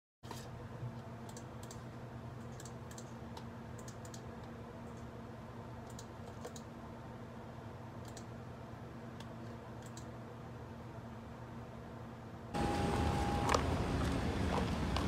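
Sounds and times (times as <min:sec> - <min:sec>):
steady low hum: 0:00.3 - 0:15.0.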